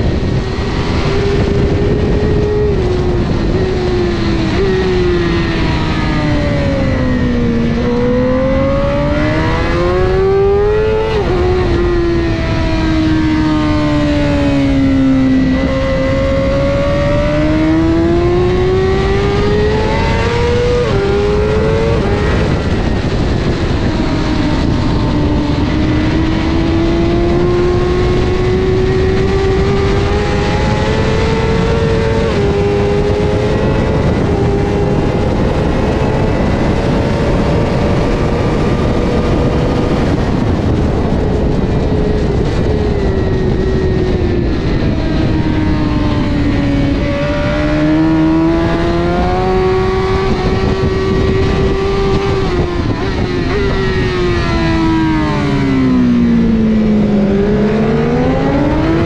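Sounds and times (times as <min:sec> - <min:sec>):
motorcycle engine at speed: 0:00.0 - 0:59.0
wind noise: 0:00.0 - 0:59.0.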